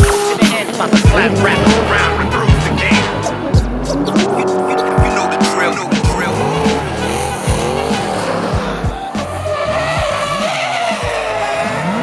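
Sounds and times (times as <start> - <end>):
car engines revving: 0.0 - 12.0
tyres squealing: 0.0 - 12.0.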